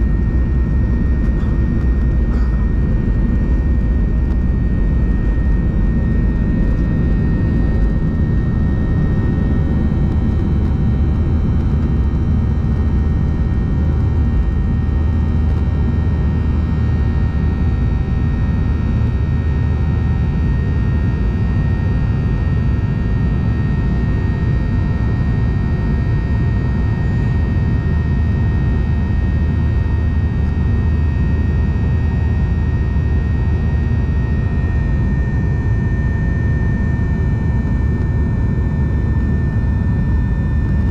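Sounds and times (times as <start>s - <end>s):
airliner cabin rumble: 0.0s - 40.9s
jet engine high whine: 0.0s - 40.9s.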